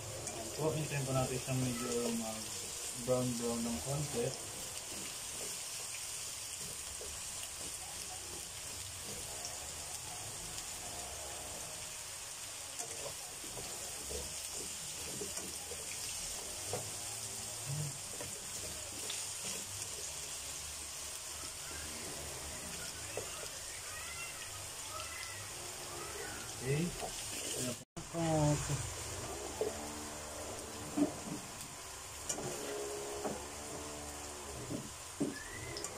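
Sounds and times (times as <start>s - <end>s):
vegetables sizzling in a pan: 0.0s - 35.9s.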